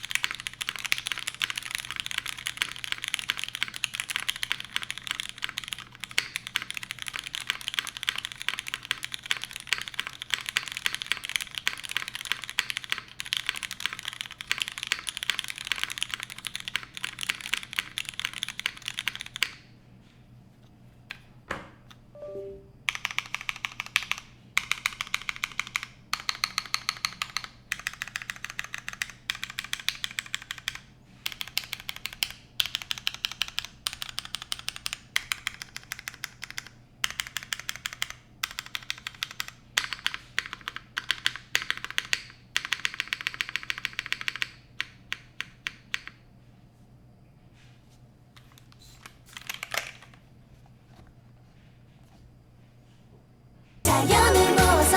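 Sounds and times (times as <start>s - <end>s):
typing on mechanical keyboard: 0.0s - 19.6s, 22.9s - 46.2s, 48.4s - 50.2s.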